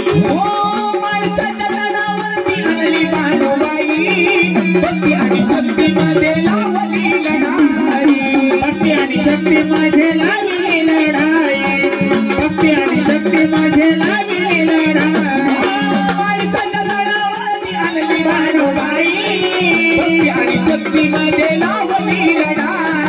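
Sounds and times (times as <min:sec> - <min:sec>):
drums playing rhythm: 0:00.0 - 0:23.0
keyboard playing: 0:00.0 - 0:23.0.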